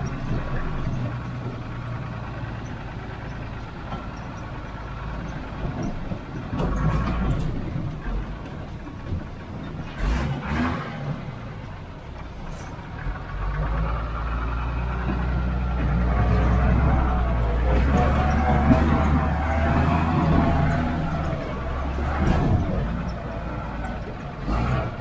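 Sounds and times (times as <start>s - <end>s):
diesel truck engine running: 0.0s - 25.0s
truck jolting and rattling: 0.0s - 25.0s.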